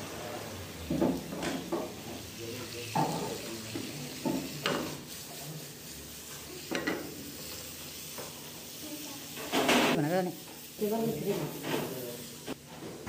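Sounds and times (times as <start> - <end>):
vegetables sizzling in a pan: 0.0 - 12.6.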